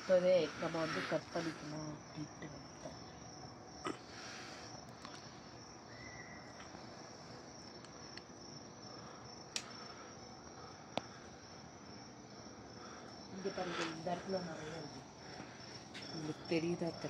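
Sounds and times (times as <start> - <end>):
faint insect trill: 0.0 - 17.0.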